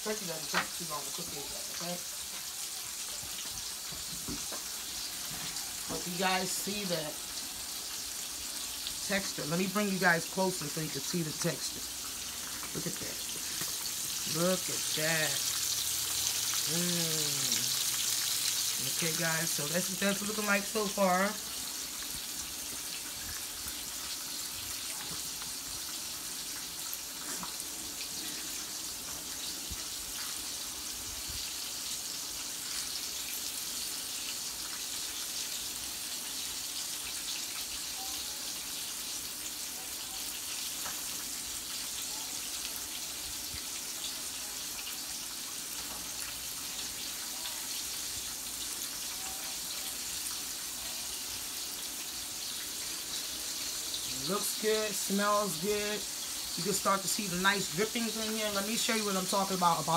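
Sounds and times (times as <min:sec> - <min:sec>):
meat sizzling in a skillet: 0:00.0 - 0:59.9.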